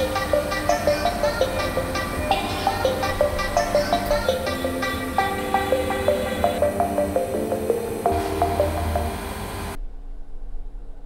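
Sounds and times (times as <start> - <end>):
low steady drone: 0.0 - 10.2
quick melody of short notes: 0.1 - 9.8.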